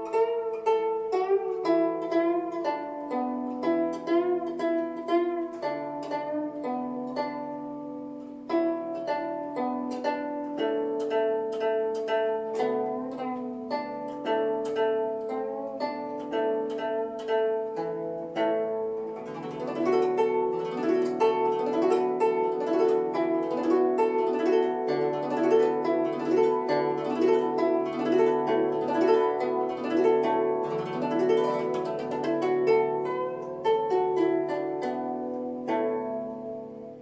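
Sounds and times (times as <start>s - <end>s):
plucked zither playing: 0.0s - 37.0s.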